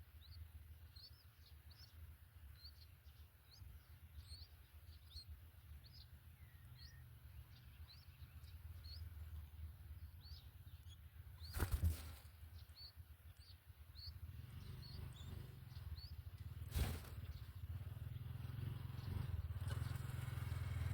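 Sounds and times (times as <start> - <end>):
small bird chirping: 0.0 - 20.9.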